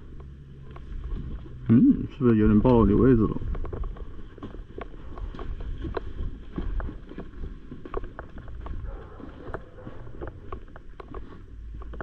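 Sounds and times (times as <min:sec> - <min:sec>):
low rumbling microphone noise: 0:00.0 - 0:12.0
sharp clicks and ticks: 0:01.6 - 0:12.0.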